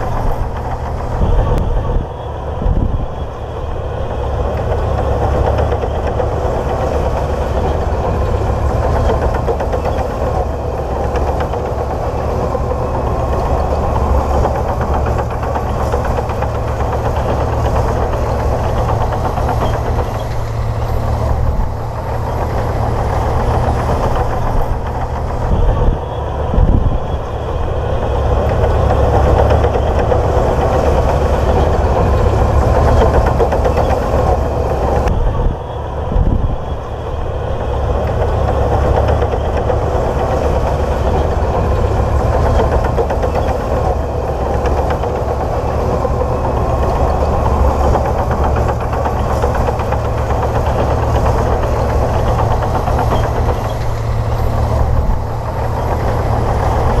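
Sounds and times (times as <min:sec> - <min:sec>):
bulldozer diesel engine throbbing: 0:00.0 - 0:57.0.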